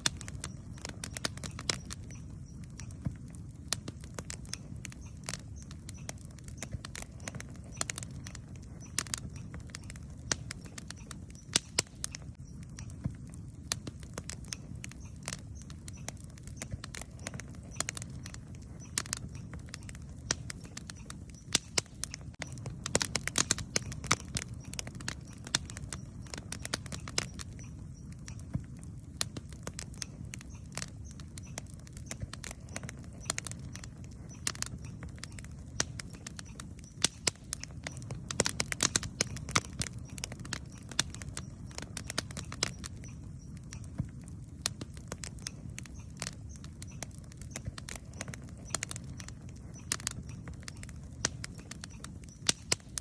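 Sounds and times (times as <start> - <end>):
low rumble of flames: 0.0 - 53.0
wood crackling and popping: 0.0 - 53.0.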